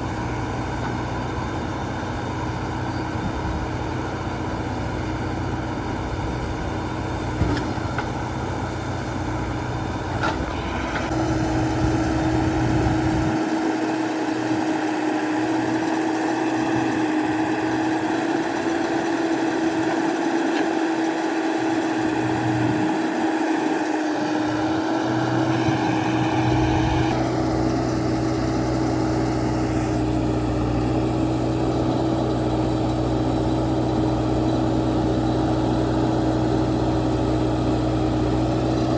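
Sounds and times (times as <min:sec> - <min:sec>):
backhoe diesel engine running: 0:00.0 - 0:38.9.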